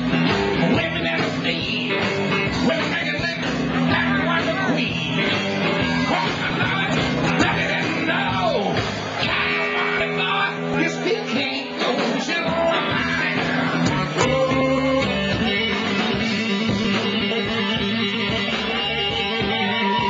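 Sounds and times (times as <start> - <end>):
drums: 0.0 - 20.0
electric guitar: 0.0 - 20.0.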